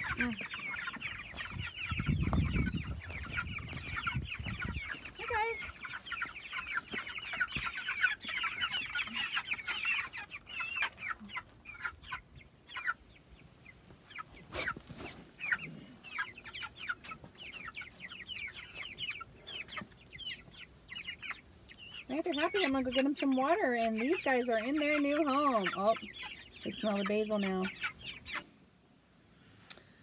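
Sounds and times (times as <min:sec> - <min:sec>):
chicks peeping: 0:00.0 - 0:29.8.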